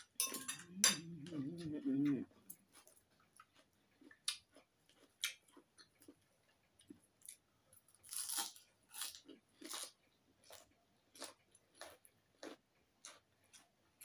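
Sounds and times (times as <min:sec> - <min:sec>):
chewing and crunching: 0:00.7 - 0:14.0.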